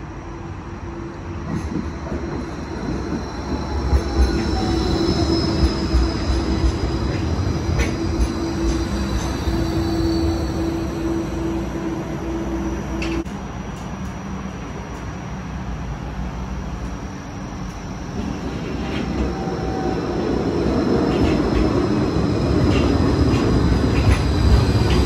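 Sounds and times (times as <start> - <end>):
tram running rumble: 0.0 - 25.0.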